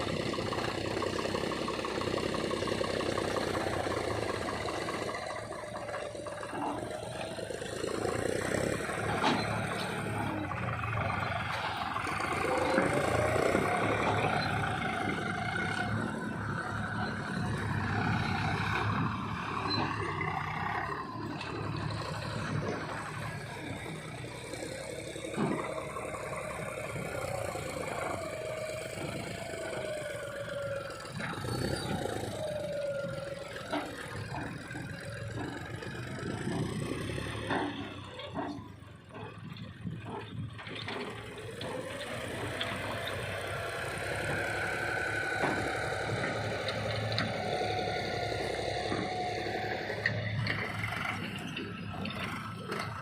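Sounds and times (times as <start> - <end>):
heavy diesel machinery running: 0.0 - 53.0.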